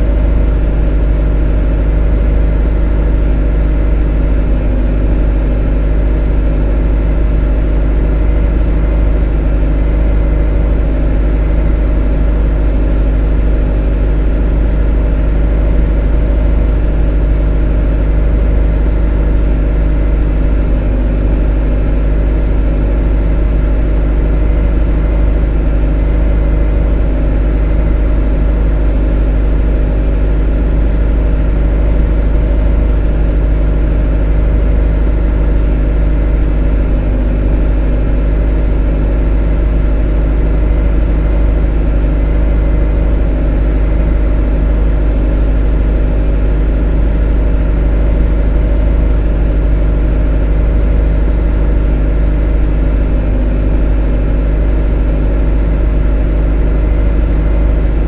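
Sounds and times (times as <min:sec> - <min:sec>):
motor droning with deep rumble: 0:00.0 - 0:58.0.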